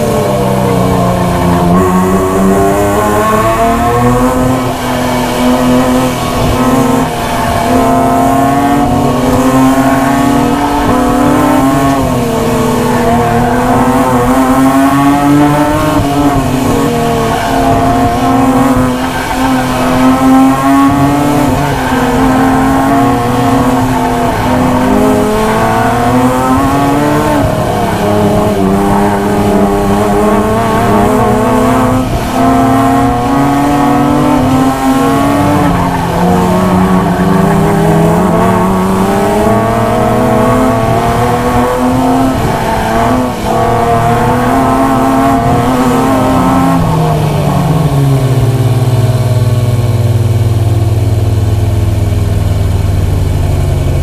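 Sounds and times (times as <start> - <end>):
car engine revving and shifting: 0.0 - 54.0.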